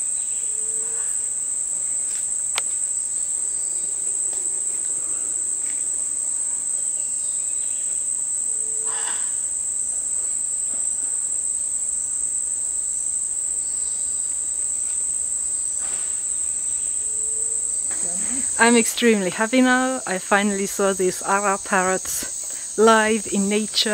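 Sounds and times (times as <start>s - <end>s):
high-pitched insect drone: 0.0s - 23.9s.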